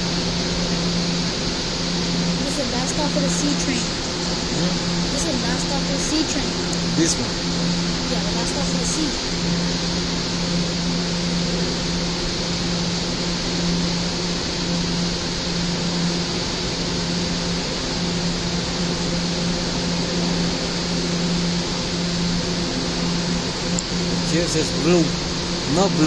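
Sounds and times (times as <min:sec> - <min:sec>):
train air-conditioning hiss and hum: 0:00.0 - 0:26.0.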